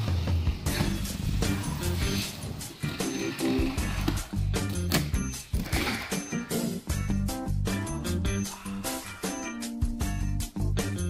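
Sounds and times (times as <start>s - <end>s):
background music with low bass line: 0.0s - 11.0s.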